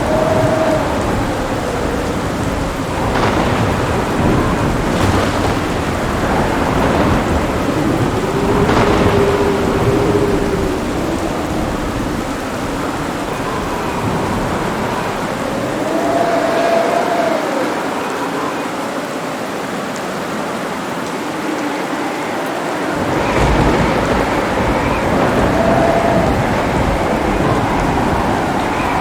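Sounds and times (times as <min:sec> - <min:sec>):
thunder rumbling: 0:00.0 - 0:18.3, 0:21.2 - 0:29.0
heavy rain pouring: 0:00.0 - 0:29.0.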